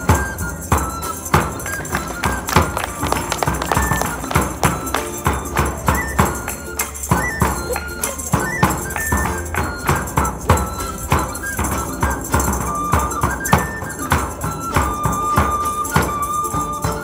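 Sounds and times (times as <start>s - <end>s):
frame drum and jingles beat: 0.0s - 17.0s
plucked lute-like strings: 0.0s - 17.0s.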